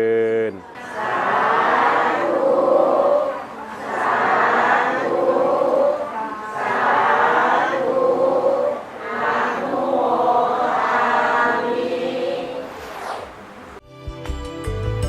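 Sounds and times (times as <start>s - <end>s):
group chanting in unison: 0.6s - 13.8s.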